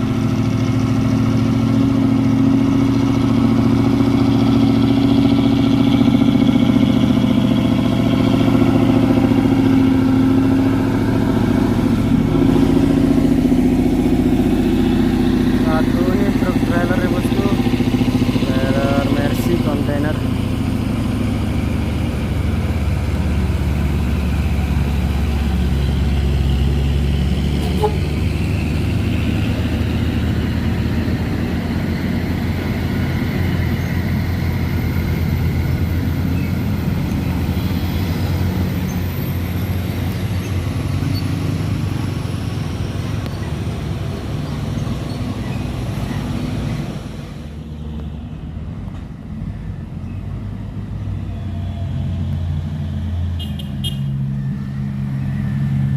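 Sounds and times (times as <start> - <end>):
heavy truck engines droning: 0.0 - 55.9.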